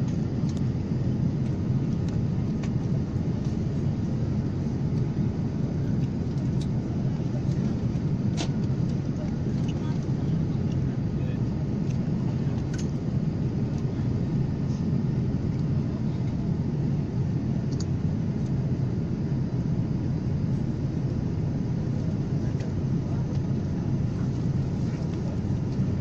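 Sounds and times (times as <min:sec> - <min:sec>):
low rumble of aircraft engines: 0:00.0 - 0:26.0.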